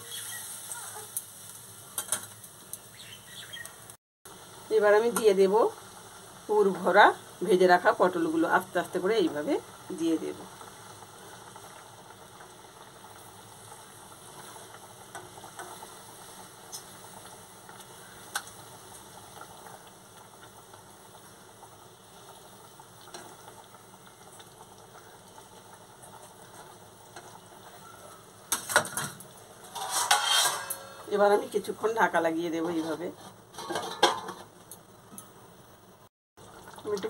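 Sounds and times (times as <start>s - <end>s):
gravy simmering with bubbling sizzle: 0.0s - 37.0s.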